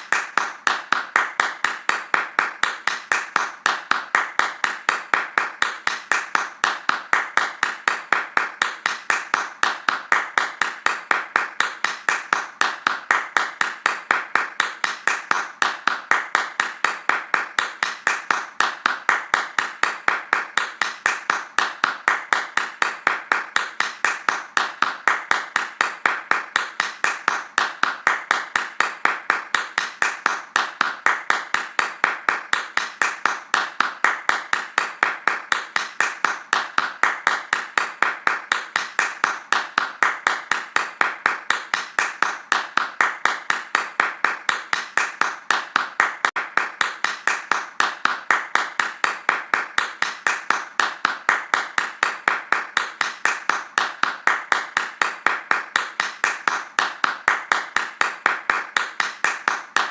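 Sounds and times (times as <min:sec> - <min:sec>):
hands clapping fast: 0:00.0 - 0:59.9.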